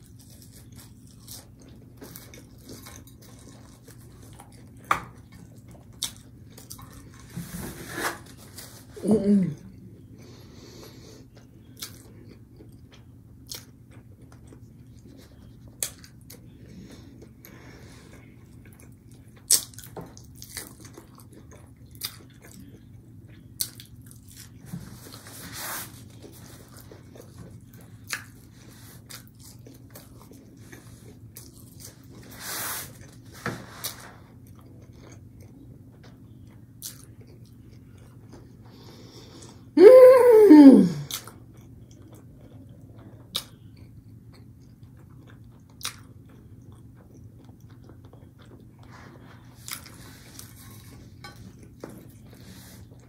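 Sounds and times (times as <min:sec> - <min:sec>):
person chewing crunchy food: 0:00.0 - 0:07.4, 0:11.0 - 0:39.7, 0:41.1 - 0:53.0.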